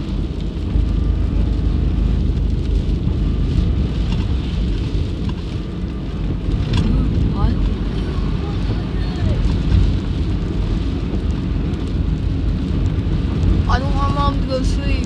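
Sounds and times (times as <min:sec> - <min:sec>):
car driving low rumble: 0:00.0 - 0:15.0
rain pattering on car: 0:00.0 - 0:15.0.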